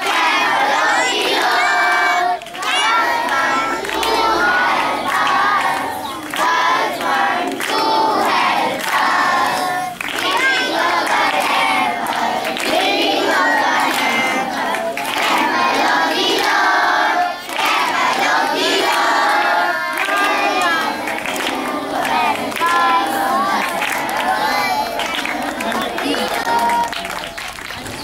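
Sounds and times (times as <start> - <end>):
children singing in chorus: 0.0 - 28.0
hand clapping: 0.0 - 28.0.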